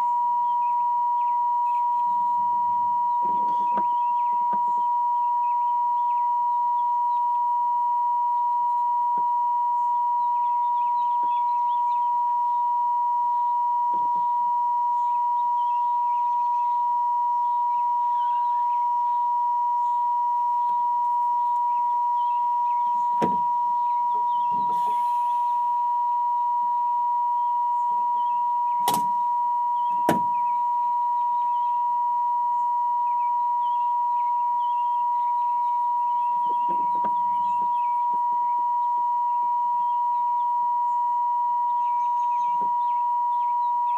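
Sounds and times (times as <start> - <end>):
high-pitched electronic tone: 0.0 - 43.9.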